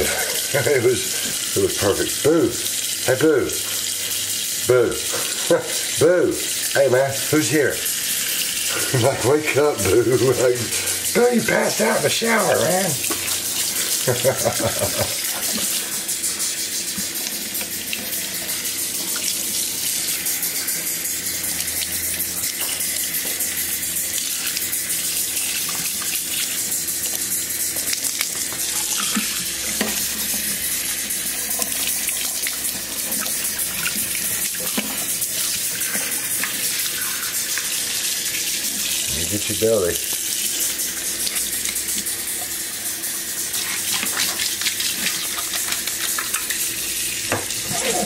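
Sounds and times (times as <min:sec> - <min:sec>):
tap water running into a sink: 0:00.0 - 0:48.0.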